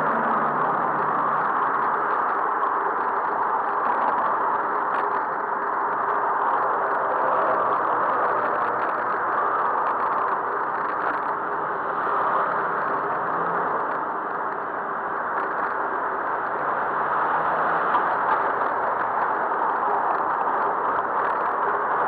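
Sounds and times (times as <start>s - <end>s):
bicycle road and wind noise: 0.0s - 22.0s
city traffic: 0.0s - 22.0s.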